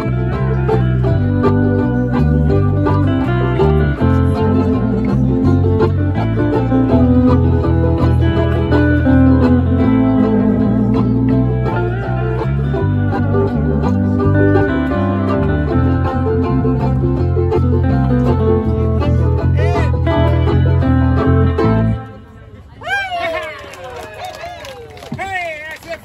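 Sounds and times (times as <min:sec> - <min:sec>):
steady bass line: 0:00.0 - 0:22.2
lap steel guitar notes: 0:00.0 - 0:22.5
plucked strings: 0:00.0 - 0:22.7.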